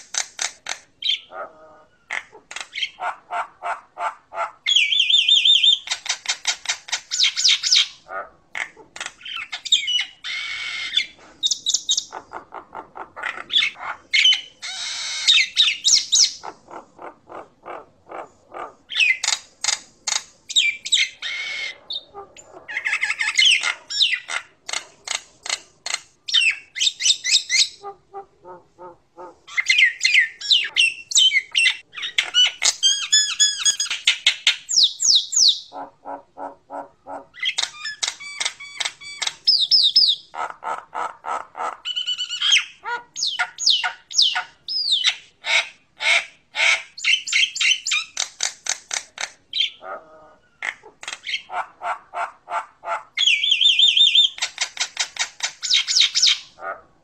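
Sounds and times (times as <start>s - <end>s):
myna bird singing: 0.1s - 3.1s, 4.6s - 17.6s, 18.2s - 27.9s, 28.8s - 40.4s, 41.8s - 48.6s, 49.2s - 51.6s, 53.1s - 56.6s.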